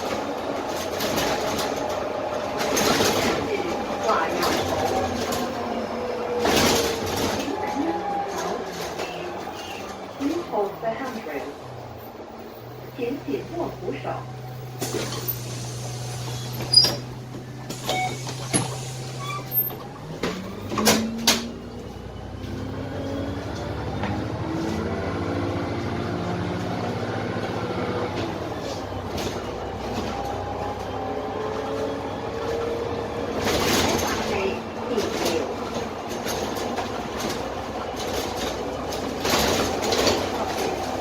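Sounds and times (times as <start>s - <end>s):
bus diesel engine idling and revving: 0.0s - 41.0s.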